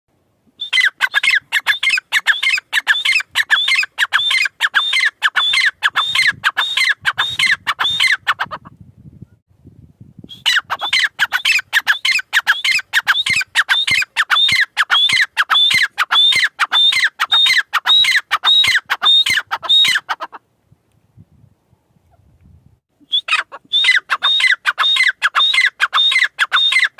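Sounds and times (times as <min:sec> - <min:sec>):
francolin calling: 0:00.6 - 0:08.6, 0:10.3 - 0:20.4, 0:23.0 - 0:26.9.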